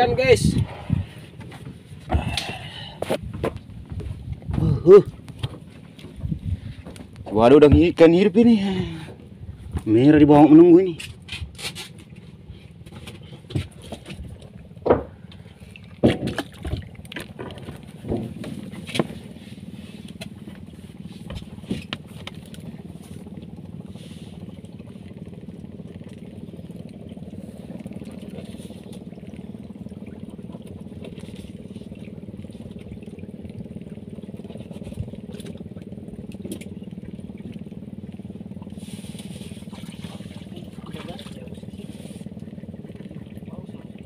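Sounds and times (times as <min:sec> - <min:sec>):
boat engine idling: 0:00.0 - 0:44.0.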